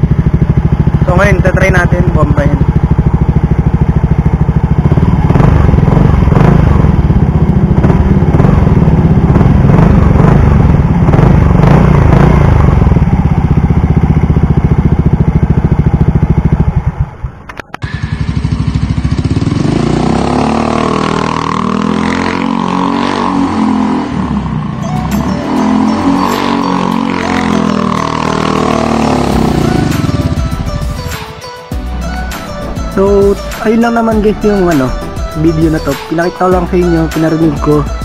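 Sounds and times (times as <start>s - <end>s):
scooter engine revving: 0.0s - 38.0s.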